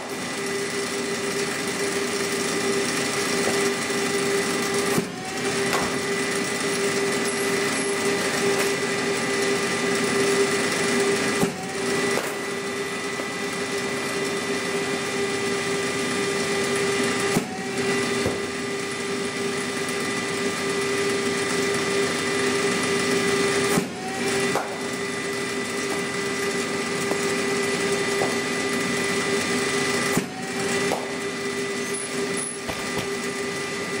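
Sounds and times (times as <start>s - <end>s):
machine motor humming: 0.0s - 34.0s.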